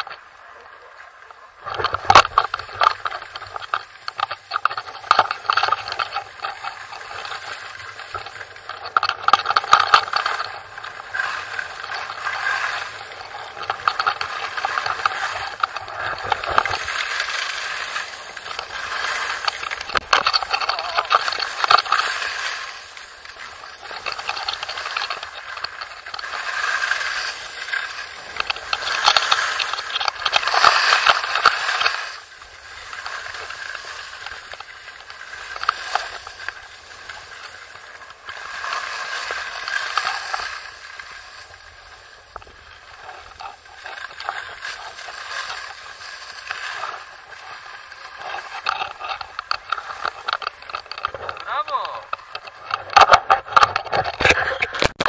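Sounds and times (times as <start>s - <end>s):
skis scraping over snow: 0.1s - 53.6s.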